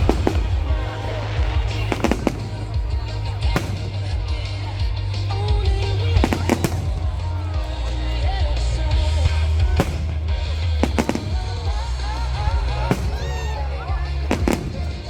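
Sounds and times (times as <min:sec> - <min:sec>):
fireworks bangs: 0:00.0 - 0:15.0
loud music with heavy bass: 0:00.0 - 0:15.0.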